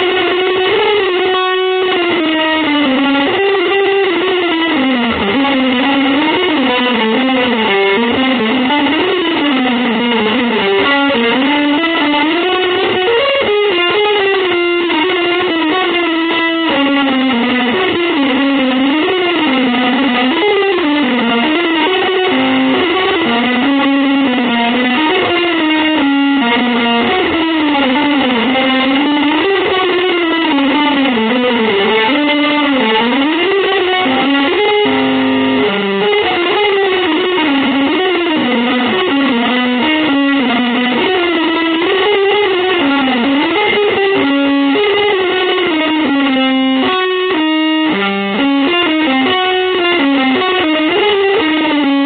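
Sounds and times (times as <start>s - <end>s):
electric guitar playing: 0.0s - 52.0s.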